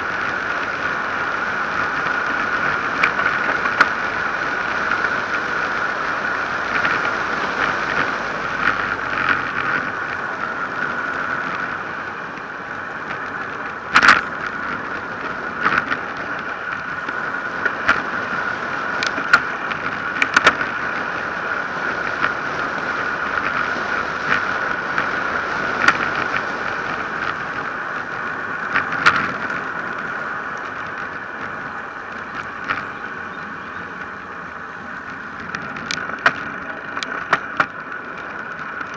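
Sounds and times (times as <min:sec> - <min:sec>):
tyres on asphalt: 0:00.0 - 0:38.9.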